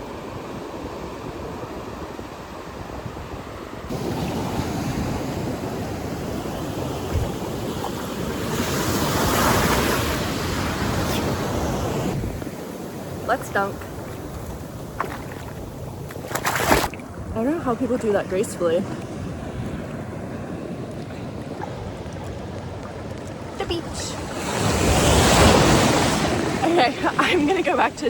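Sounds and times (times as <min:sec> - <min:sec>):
wind on microphone: 0:00.0 - 0:27.0
ocean surf washing in: 0:00.0 - 0:28.0.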